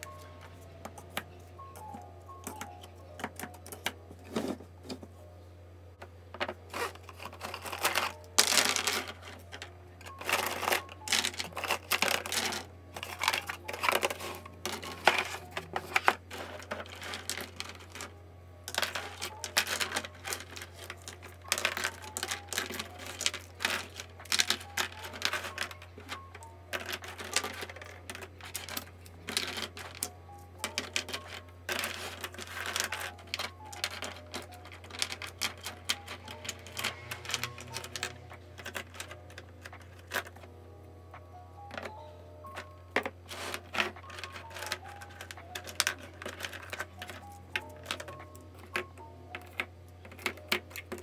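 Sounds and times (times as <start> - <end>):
plastic markers clicking and clattering: 6.8 - 18.1, 18.7 - 40.4, 42.5 - 51.0.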